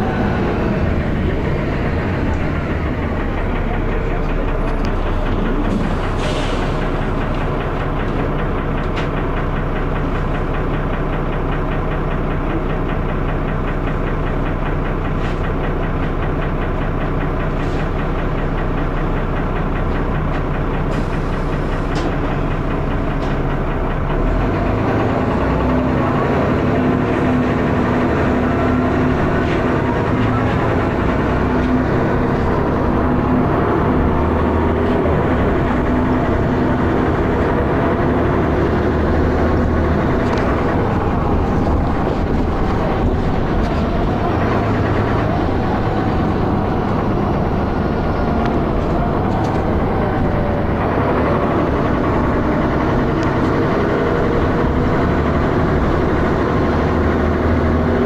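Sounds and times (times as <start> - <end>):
bus engine knocking and clattering: 0.0 - 58.0.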